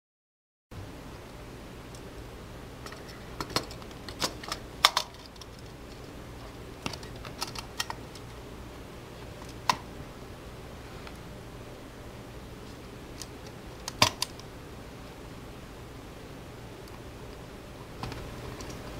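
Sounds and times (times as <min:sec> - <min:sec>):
steady low hum: 0:00.7 - 0:18.9.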